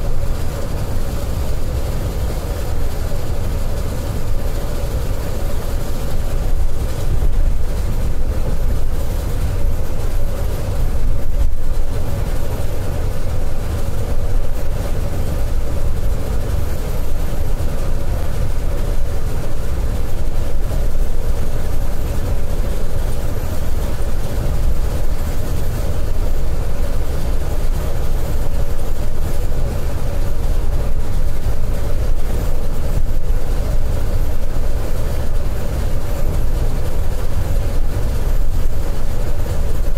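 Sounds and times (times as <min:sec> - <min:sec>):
coach engine drone: 0:00.0 - 0:39.9
constant hum: 0:00.0 - 0:39.9.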